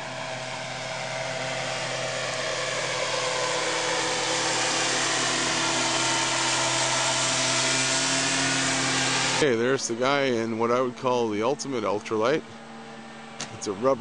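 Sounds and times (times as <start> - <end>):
ultralight aircraft engine droning: 0.0 - 14.0.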